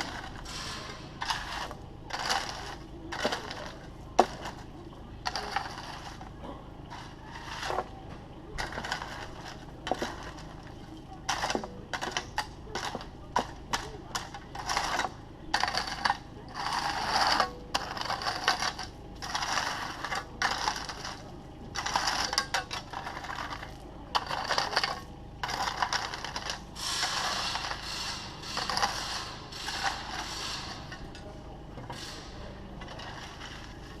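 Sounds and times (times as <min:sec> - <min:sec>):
diesel engine running: 0:00.0 - 0:34.0
digger bucket scraping stone: 0:00.0 - 0:34.0.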